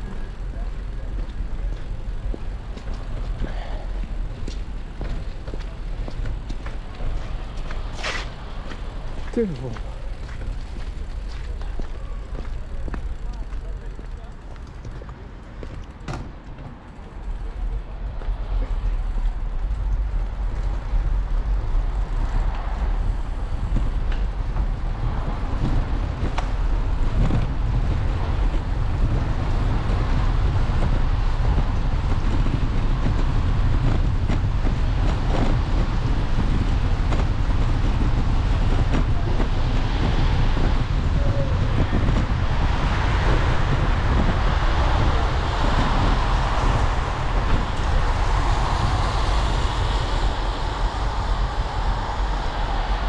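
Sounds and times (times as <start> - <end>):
road traffic hiss: 0.0 - 14.0, 17.1 - 53.0
wind rumble on camera: 0.0 - 53.0.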